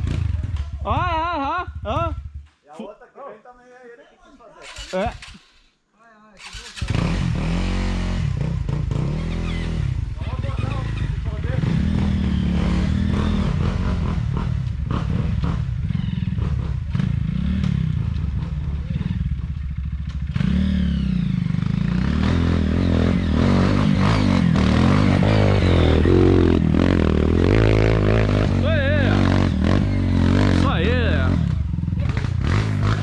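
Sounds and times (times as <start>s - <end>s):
motorcycle engines revving: 0.0s - 2.5s, 4.6s - 5.7s, 6.4s - 33.0s.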